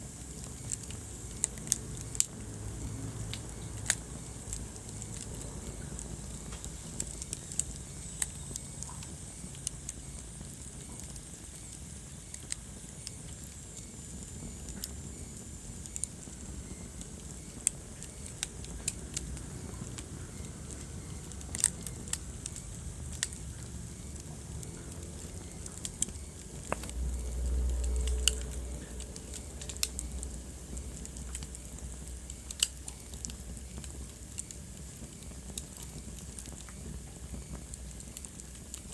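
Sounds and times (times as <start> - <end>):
fire crackling and popping: 0.0 - 38.9
low rumble of flame: 0.0 - 38.9.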